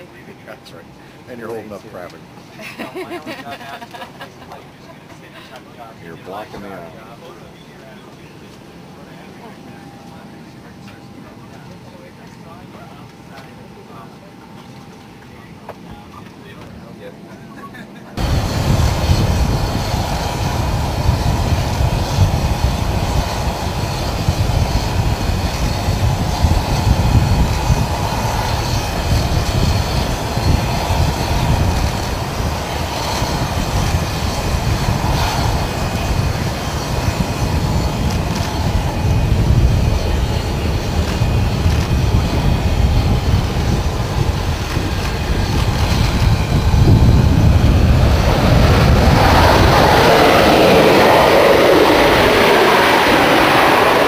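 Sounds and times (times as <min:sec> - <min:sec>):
aircraft roar and rumble: 0:00.0 - 0:54.0.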